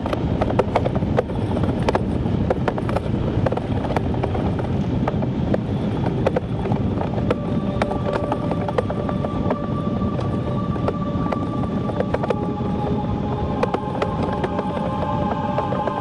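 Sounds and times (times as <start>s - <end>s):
iceboat runners on ice rumbling: 0.0s - 16.0s.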